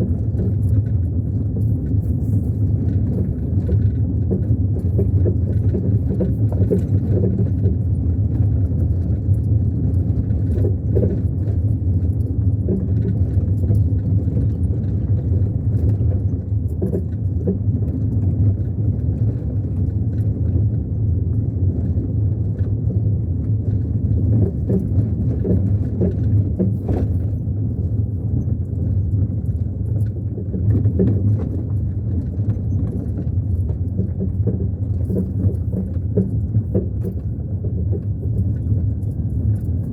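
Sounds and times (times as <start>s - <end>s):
car engine and tyres rumbling: 0.0s - 39.9s
small rattles and knocks: 0.0s - 39.9s.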